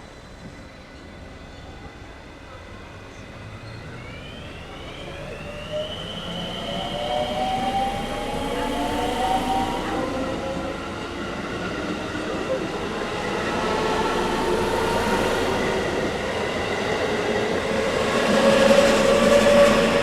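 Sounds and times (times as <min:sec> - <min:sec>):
electric train motors whining: 0:02.1 - 0:20.0.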